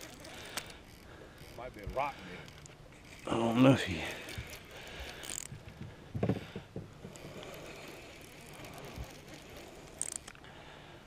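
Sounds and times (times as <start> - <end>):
fishing reel clicking: 0.0 - 5.5, 7.1 - 10.5.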